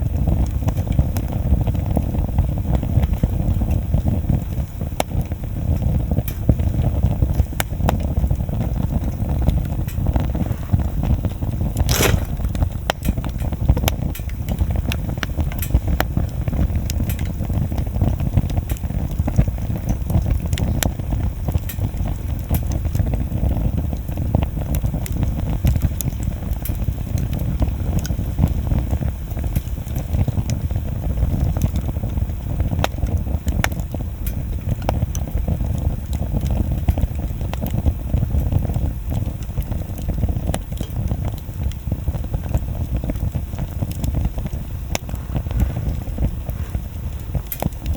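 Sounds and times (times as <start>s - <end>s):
bonfire rumbling and crackling: 0.0s - 47.9s.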